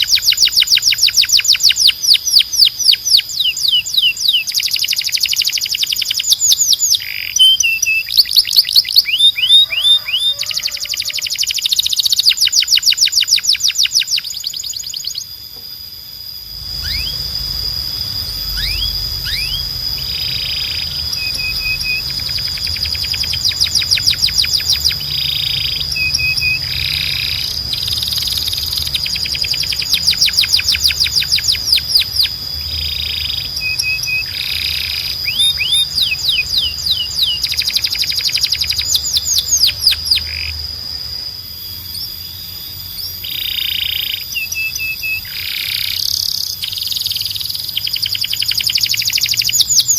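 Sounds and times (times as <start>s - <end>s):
canary chirping: 0.0s - 15.3s, 16.8s - 17.4s, 18.4s - 40.8s, 41.6s - 49.9s
canary trilling: 0.0s - 15.4s, 16.7s - 49.9s.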